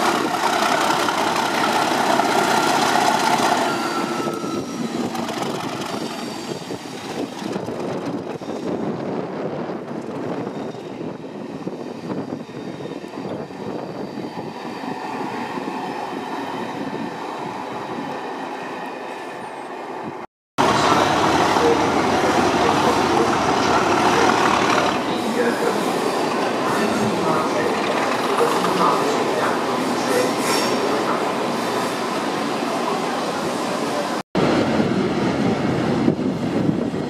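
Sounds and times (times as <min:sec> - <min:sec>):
train wheels rumbling on rail: 0:00.0 - 0:19.2, 0:20.0 - 0:37.0
diesel locomotive engine working: 0:00.0 - 0:19.5, 0:20.6 - 0:37.0.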